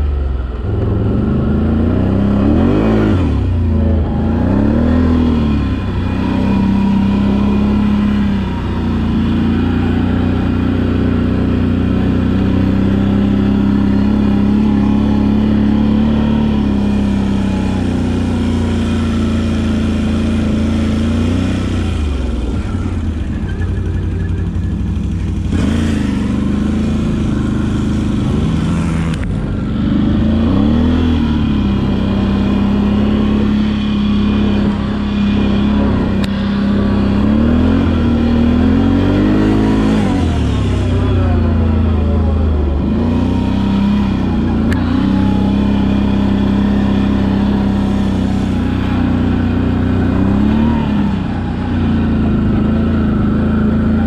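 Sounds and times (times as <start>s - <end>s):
atv engine under throttle: 0.0s - 54.0s.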